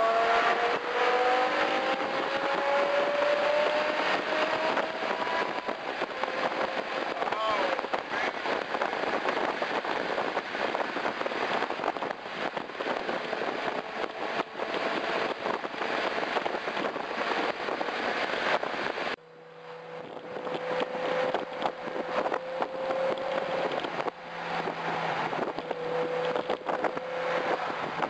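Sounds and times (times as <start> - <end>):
car exhaust crackling and roaring: 0.0 - 28.0.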